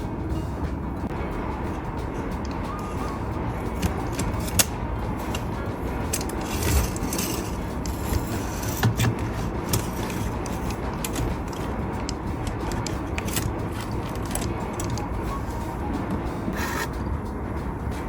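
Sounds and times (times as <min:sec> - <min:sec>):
steady scraping hiss: 0:00.0 - 0:18.0.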